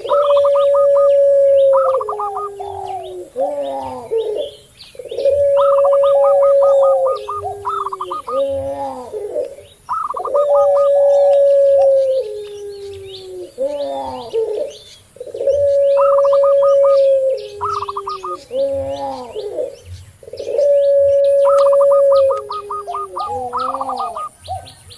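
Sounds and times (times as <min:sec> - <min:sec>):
doves cooing quick high notes: 0:00.0 - 0:24.7
dove long coo: 0:00.0 - 0:24.9
small birds chirping: 0:00.0 - 0:24.9.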